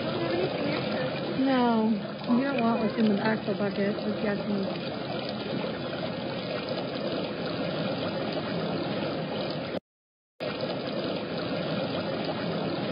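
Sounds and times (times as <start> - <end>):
waterfall splashing into pond: 0.0 - 9.8, 10.4 - 12.9.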